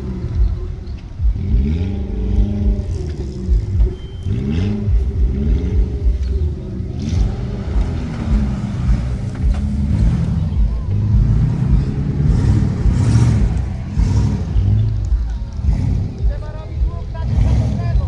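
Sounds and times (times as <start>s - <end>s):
car engine revving: 0.0s - 18.0s
uneven low rumble: 0.0s - 18.0s.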